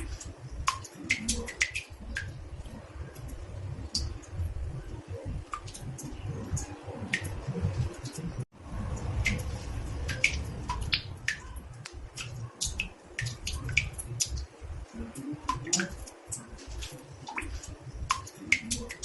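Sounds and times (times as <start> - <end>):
water drops plinking in bathtub: 0.0 - 8.2, 8.9 - 19.0.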